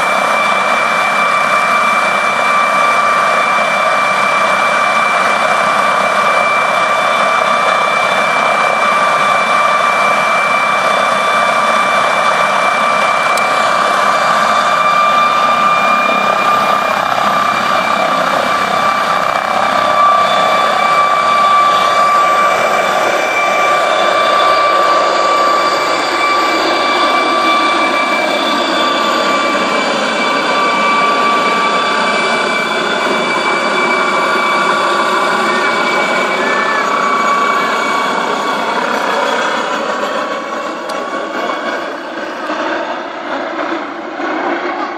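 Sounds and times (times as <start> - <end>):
helicopter rotor noise: 0.0 - 44.9
high turbine whine: 0.0 - 44.9.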